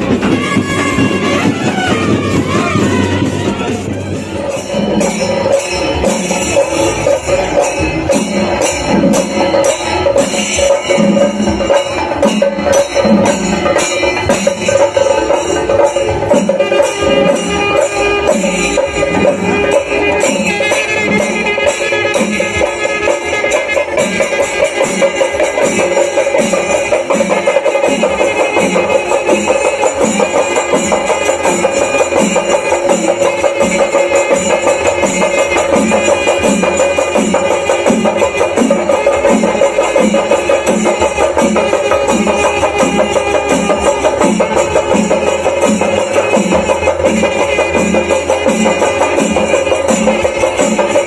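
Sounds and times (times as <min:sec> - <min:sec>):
steady drum beat: 0:00.0 - 0:51.0.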